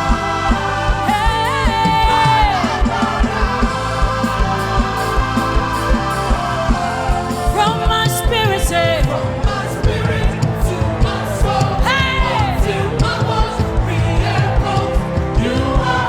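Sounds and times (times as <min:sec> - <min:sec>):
drum beat: 0:00.0 - 0:16.0
keyboard chords: 0:00.0 - 0:16.0
praise band music with singing: 0:00.0 - 0:16.0.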